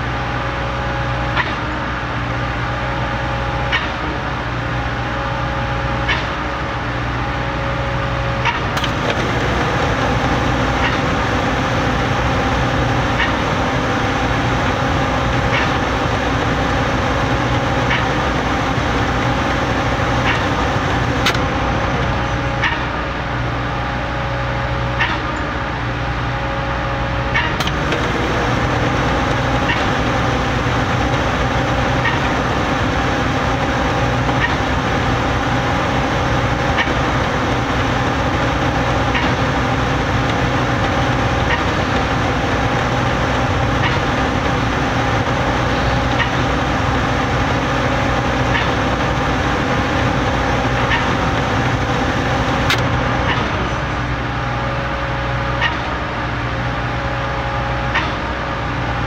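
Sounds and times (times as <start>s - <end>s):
concrete pump engine running: 0.0s - 59.0s.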